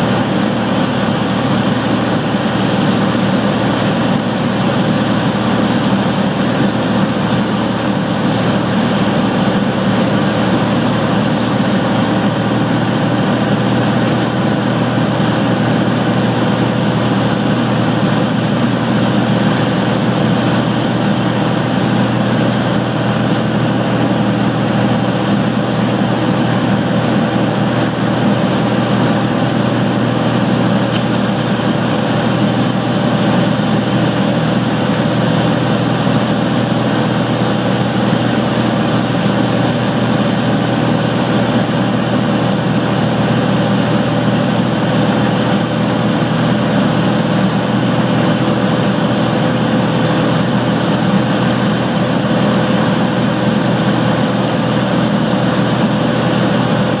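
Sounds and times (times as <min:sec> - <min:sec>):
airplane engine and propeller drone: 0:00.0 - 0:57.0.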